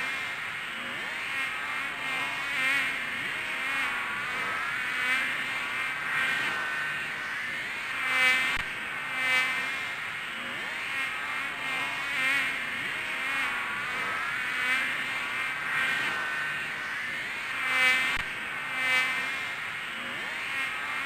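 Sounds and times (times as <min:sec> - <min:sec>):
insect buzzing in flight: 0:00.0 - 0:21.0.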